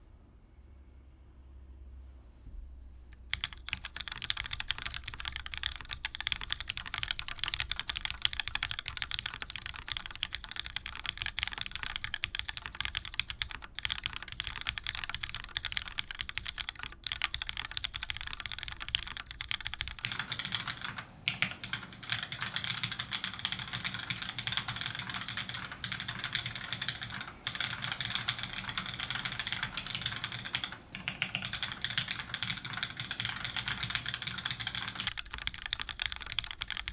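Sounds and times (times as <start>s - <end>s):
fast typing on mechanical keyboard: 3.3s - 36.9s.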